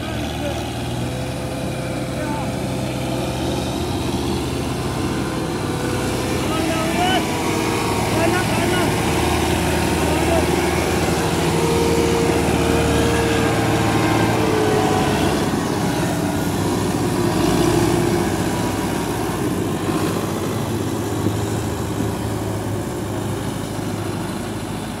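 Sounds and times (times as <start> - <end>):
tractor diesel engines running: 0.0 - 25.0.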